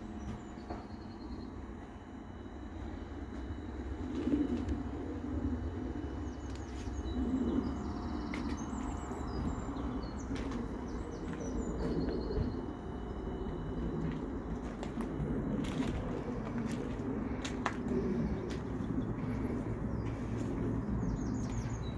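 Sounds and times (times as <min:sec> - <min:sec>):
steady low rumble: 0:00.0 - 0:21.9
birds chirping and trilling: 0:04.2 - 0:21.9.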